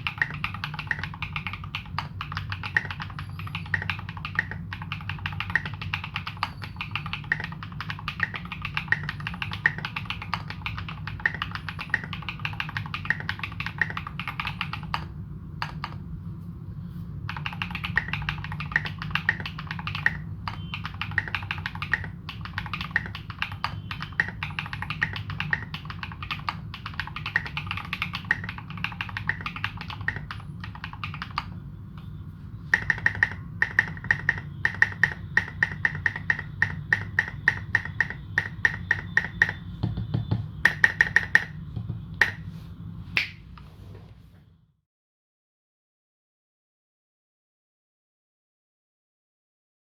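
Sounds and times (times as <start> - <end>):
fast typing on mechanical keyboard: 0.0 - 16.0, 17.3 - 31.6, 32.6 - 42.4.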